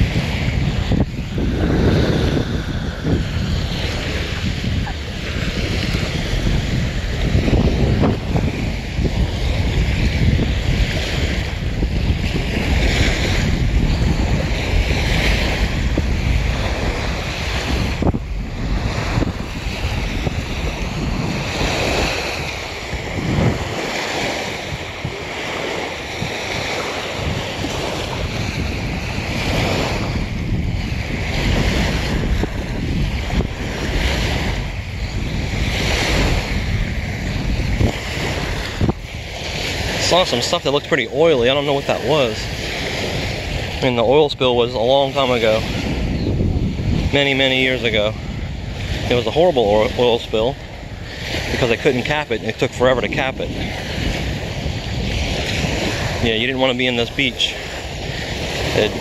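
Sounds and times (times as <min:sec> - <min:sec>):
small waves breaking on shore: 0:00.0 - 0:59.0
wind buffeting microphone: 0:00.0 - 0:59.0.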